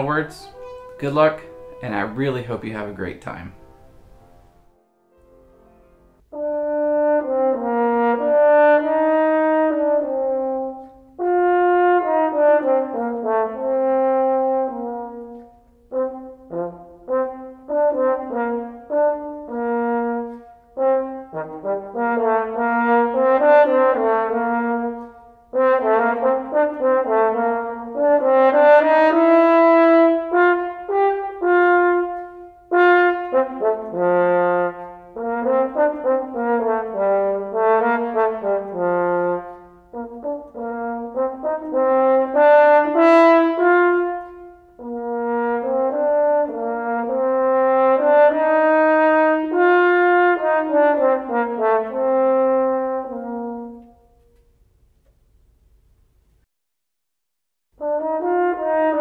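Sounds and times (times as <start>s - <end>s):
french horn playing: 0.0s - 54.7s, 57.8s - 59.0s.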